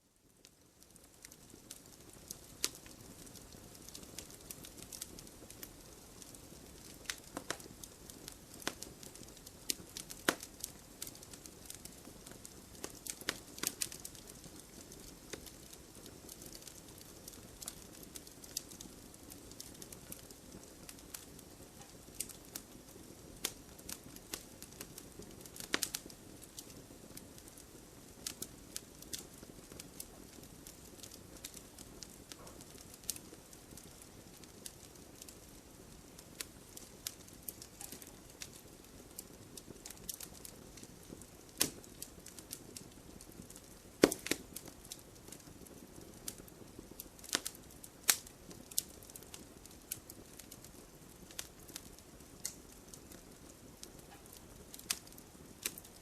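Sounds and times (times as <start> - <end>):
burning firewood crackling: 0.2 - 56.0.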